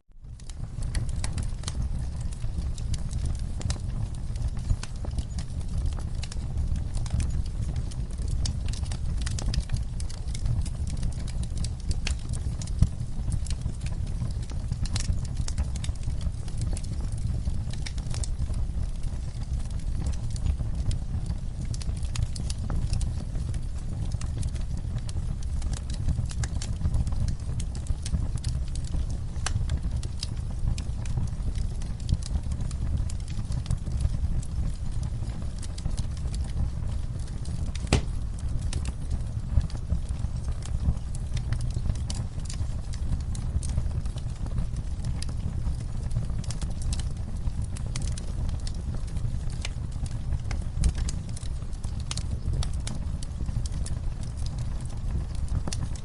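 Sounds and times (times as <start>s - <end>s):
soft steady rainfall: 0.2s - 56.0s
wood fire crackling and popping: 0.2s - 56.0s.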